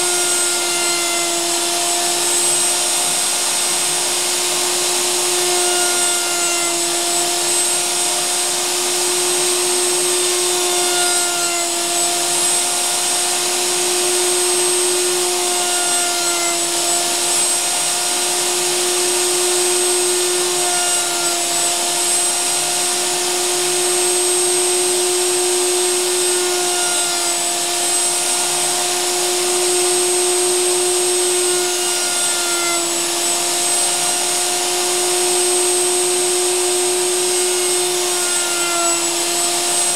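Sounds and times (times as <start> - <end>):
router bit cutting wood: 0.0 - 39.9
wood router whining: 0.0 - 39.9.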